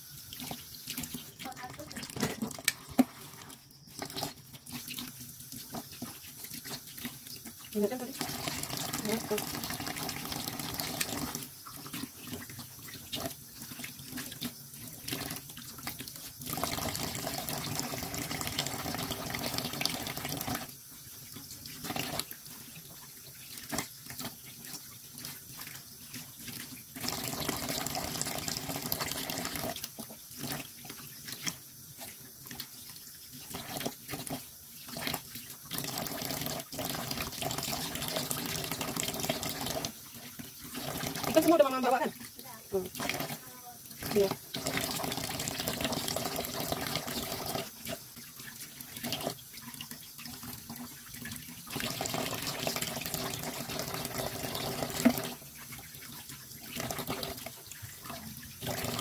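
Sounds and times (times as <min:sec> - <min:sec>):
tap water running into sink: 0:00.0 - 0:59.0.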